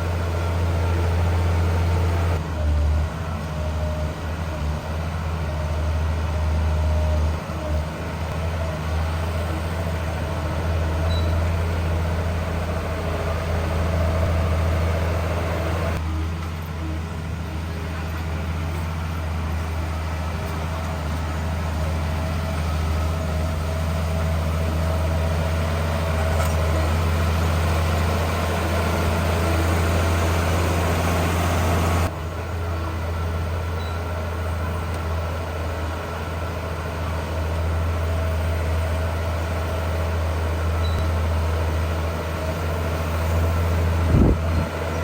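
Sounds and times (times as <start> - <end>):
heavy diesel engine humming: 0.0 - 45.0.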